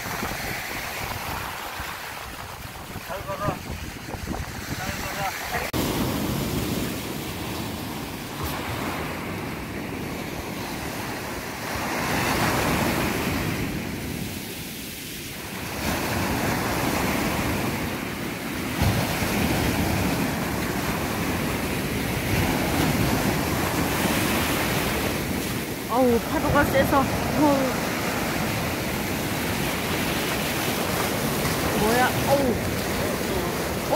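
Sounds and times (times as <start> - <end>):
sea surf breaking: 0.0 - 33.9.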